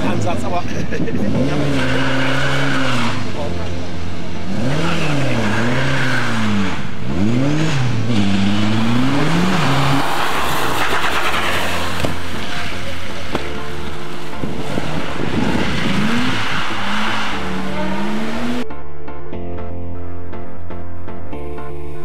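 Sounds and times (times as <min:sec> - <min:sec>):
rally car engine revving: 0:00.0 - 0:18.6
rally car passing: 0:00.0 - 0:18.6.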